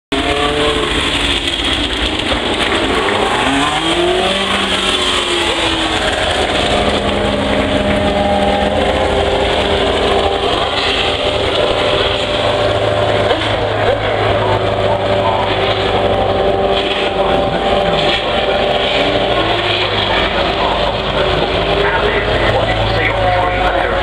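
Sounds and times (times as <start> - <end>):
race car engines passing: 0.1 - 24.0.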